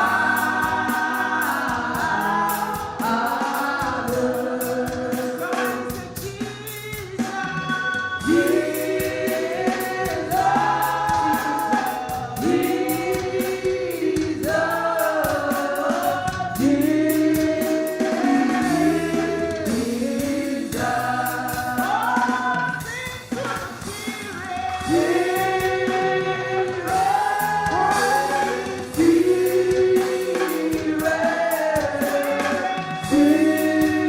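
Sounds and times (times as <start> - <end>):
voices singing long notes: 0.0 - 6.0, 7.8 - 22.8, 24.8 - 34.0
instrumental backing: 0.0 - 34.0
ticking percussion beat: 0.0 - 34.0.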